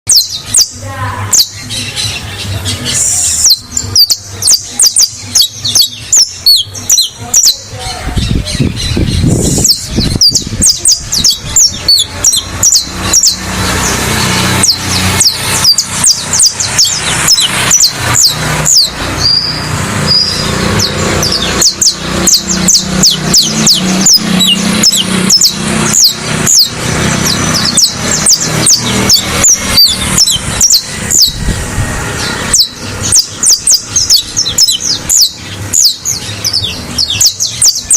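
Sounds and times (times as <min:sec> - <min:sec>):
finch singing: 0:00.1 - 0:37.9.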